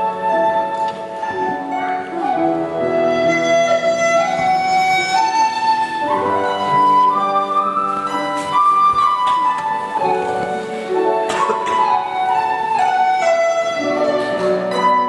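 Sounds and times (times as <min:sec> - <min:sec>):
bamboo flute melody: 0:00.0 - 0:15.0
sustained accompaniment: 0:00.0 - 0:15.0.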